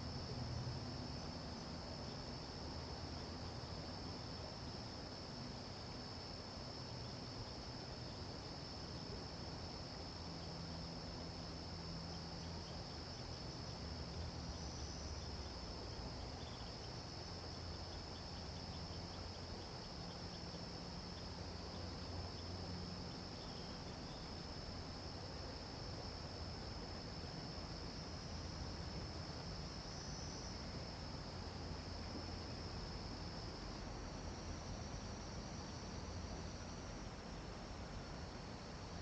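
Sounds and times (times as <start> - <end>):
insects trilling: 0.9 - 37.5.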